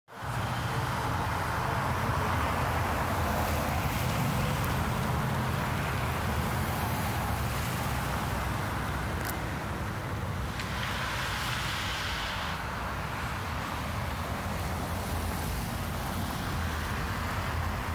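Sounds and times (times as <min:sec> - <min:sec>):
cars driving on icy road: 0:00.1 - 0:17.9.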